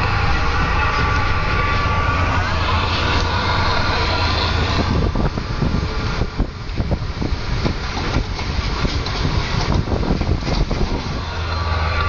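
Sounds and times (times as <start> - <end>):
truck engine drone: 0.0 - 12.0
tyre and wind noise: 0.0 - 12.0.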